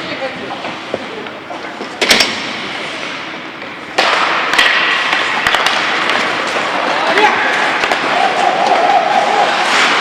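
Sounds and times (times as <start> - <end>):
hockey sticks and puck clacking: 1.2 - 10.0.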